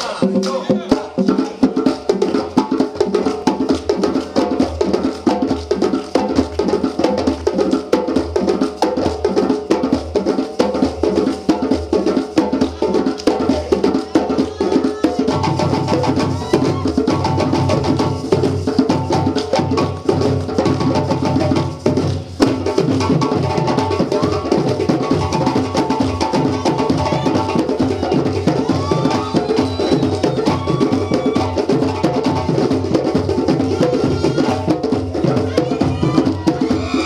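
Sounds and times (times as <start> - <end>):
djembe drums ensemble: 0.0 - 37.0.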